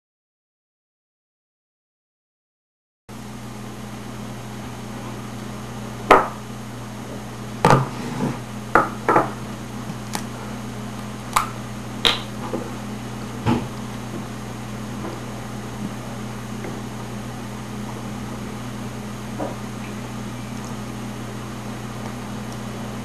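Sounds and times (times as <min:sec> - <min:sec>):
steady low hum: 0:03.1 - 0:23.0.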